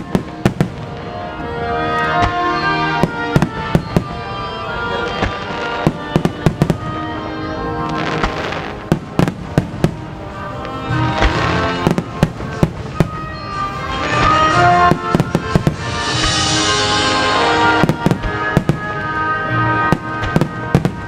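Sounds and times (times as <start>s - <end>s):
fireworks shell reports: 0.0s - 21.0s
music with long held notes: 0.0s - 21.0s.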